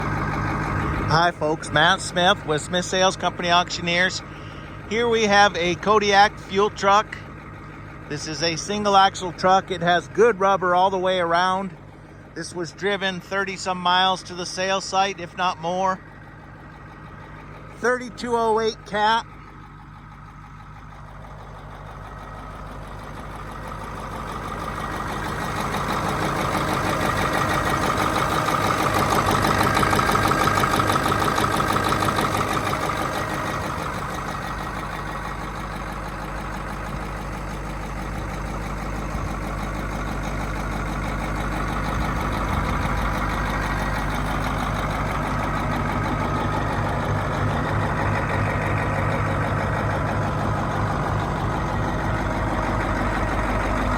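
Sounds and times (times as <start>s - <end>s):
diesel truck engine idling: 0.0s - 53.9s.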